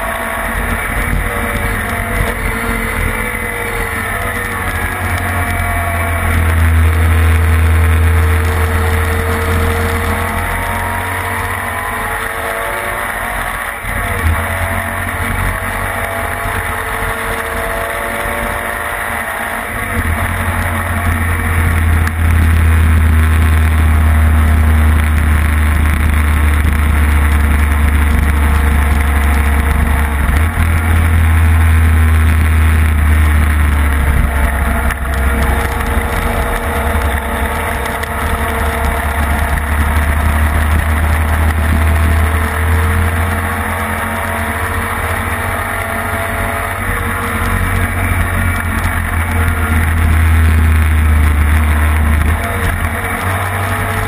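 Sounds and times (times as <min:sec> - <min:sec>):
racing engine running hard: 0:00.0 - 0:54.0.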